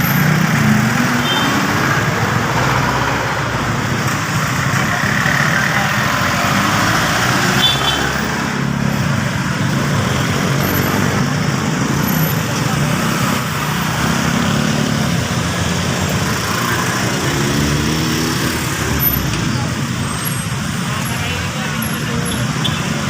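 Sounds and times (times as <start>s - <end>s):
vehicle engines idling in traffic: 0.0s - 23.0s.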